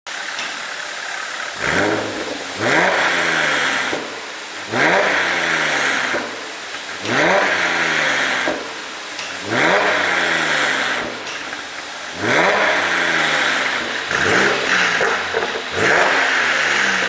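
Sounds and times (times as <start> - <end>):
exhaust popping and crackling: 0.1 - 17.0
car engine revving: 1.0 - 17.0.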